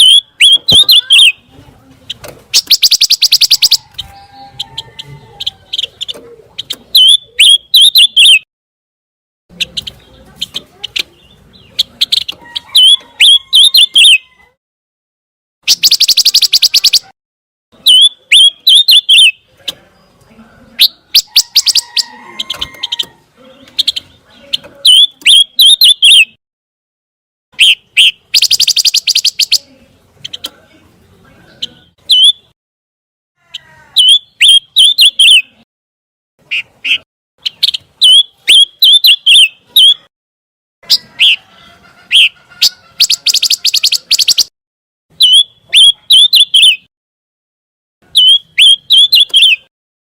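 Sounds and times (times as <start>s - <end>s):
songbird chirping and rattling: 0.0s - 8.4s, 9.5s - 14.5s, 15.6s - 17.1s, 17.8s - 26.4s, 27.6s - 32.6s, 33.5s - 35.6s, 36.4s - 40.1s, 40.8s - 44.5s, 45.1s - 46.9s, 48.0s - 49.7s.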